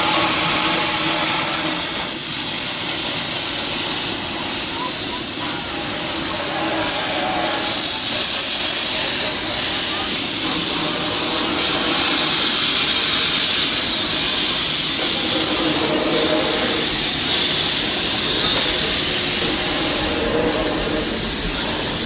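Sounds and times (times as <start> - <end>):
steam locomotive hissing: 0.0 - 22.0.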